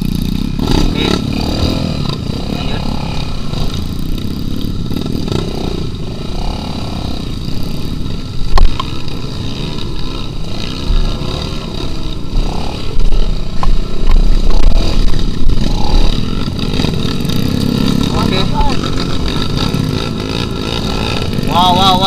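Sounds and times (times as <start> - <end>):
motorcycle engines revving: 0.0 - 22.0
motorcycle knocking and rattling: 0.0 - 22.0.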